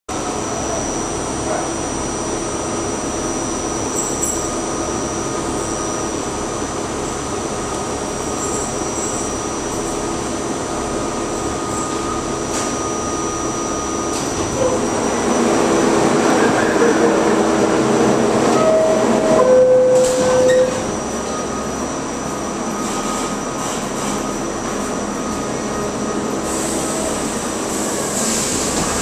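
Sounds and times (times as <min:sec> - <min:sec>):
subway car rumble: 0:00.1 - 0:29.0
subway car whines: 0:00.1 - 0:29.0.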